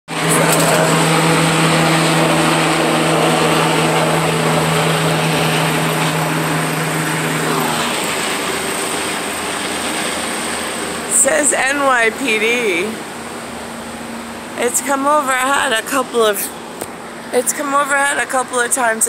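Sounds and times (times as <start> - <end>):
helicopter flying overhead: 0.1 - 19.0
cicadas buzzing: 0.2 - 18.7.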